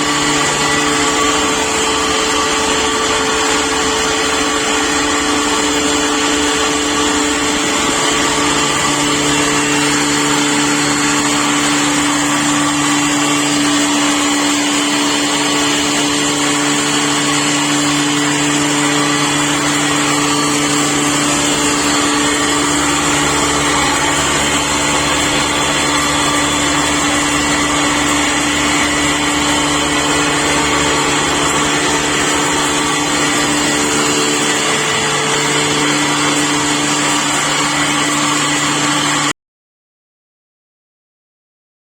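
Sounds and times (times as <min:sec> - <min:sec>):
pulveriser running with mechanical rush: 0:00.0 - 0:39.3.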